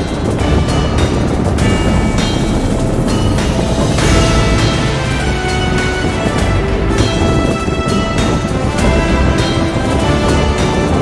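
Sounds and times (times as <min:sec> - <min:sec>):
instrumental music with beat: 0:00.0 - 0:11.0.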